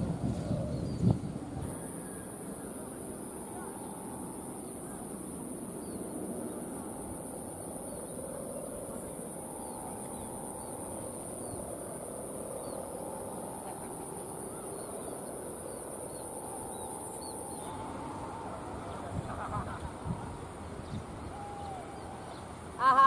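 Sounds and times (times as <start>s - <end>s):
constant high whine: 0.0s - 23.0s.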